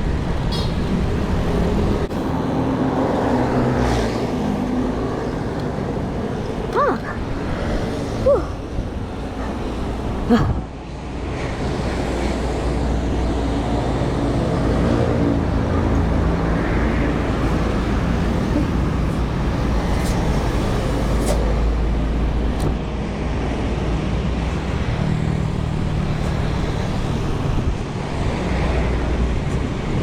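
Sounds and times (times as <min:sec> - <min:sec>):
car and motorbike engines passing: 0:00.0 - 0:10.5, 0:11.4 - 0:22.6, 0:23.5 - 0:30.0.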